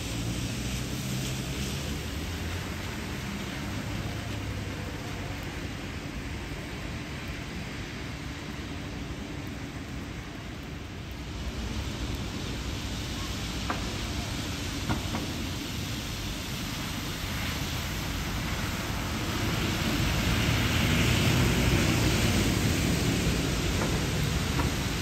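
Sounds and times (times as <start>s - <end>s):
rain: 0.0s - 25.0s
vehicle passing on wet road: 0.0s - 25.0s.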